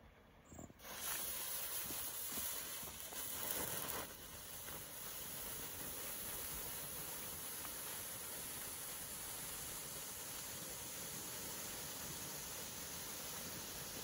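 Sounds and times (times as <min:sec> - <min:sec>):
firework fountain hissing: 0:00.7 - 0:14.0.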